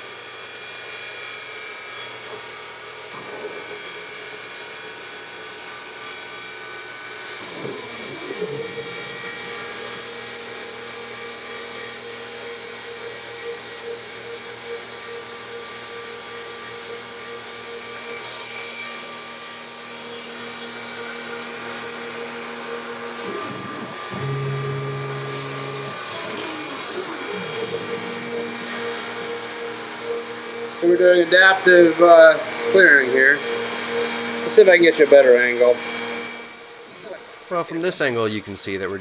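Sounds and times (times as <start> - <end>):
milling machine cutting metal: 3.1 - 36.9.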